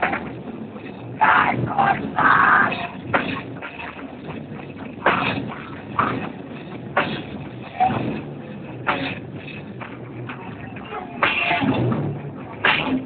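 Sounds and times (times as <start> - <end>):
live rock band: 0.0 - 13.0.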